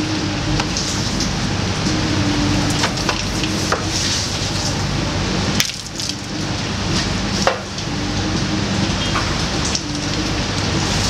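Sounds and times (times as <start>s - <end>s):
boat engine humming: 0.0s - 11.0s
rain on a boat deck: 0.0s - 11.0s.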